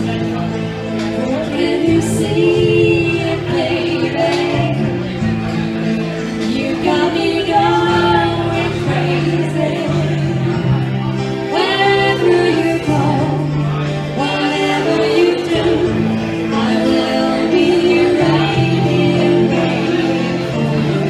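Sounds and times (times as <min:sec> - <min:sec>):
two people singing a ballad: 0:01.1 - 0:05.7, 0:06.3 - 0:21.0.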